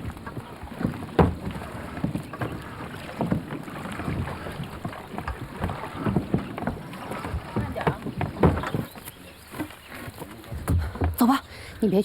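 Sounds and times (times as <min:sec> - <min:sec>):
water sloshing around boat: 0:00.0 - 0:12.0.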